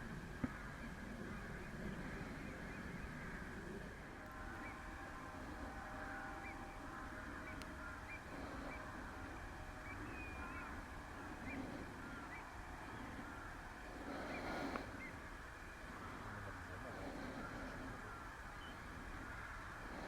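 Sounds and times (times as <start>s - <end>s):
waterbirds calling: 0.0s - 20.0s.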